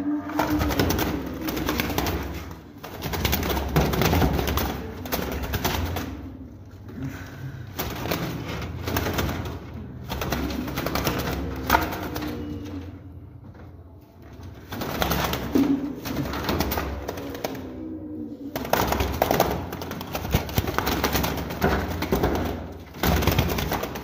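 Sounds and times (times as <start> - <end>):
pigeons cooing: 0.0 - 13.3, 14.4 - 24.0.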